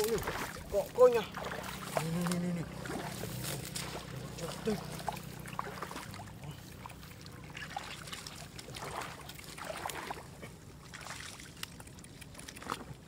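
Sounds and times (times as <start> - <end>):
splashing in shallow water: 0.0 - 13.0.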